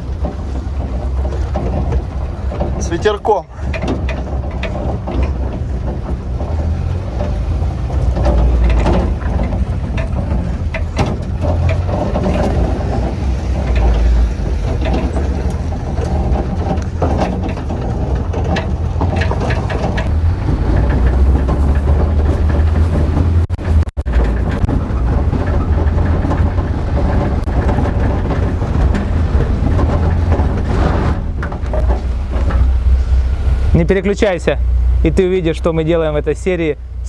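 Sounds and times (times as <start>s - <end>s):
car body rattling: 0.0s - 37.0s
car engine rumble: 0.0s - 37.0s.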